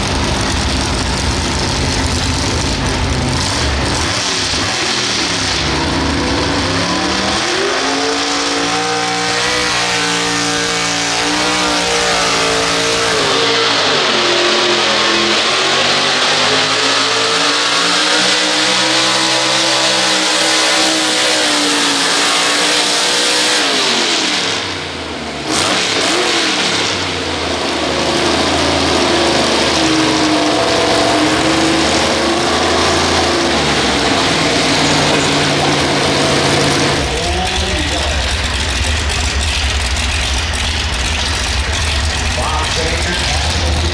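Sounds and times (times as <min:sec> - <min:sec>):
tractor engine at high revs: 0:00.0 - 0:43.9.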